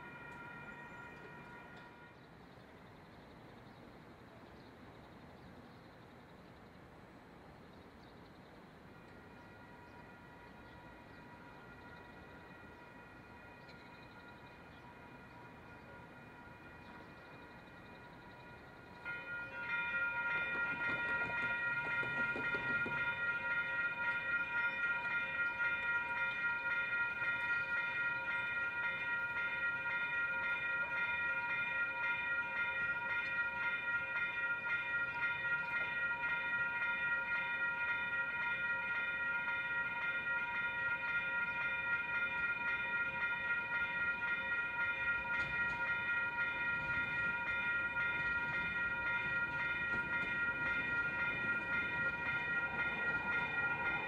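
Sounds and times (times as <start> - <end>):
railroad crossing bell ringing: 0.0 - 54.0.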